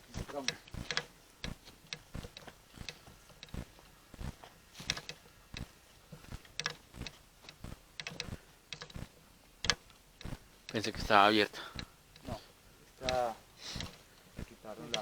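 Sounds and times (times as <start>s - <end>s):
footsteps crunching on rough ground: 0.0s - 15.0s.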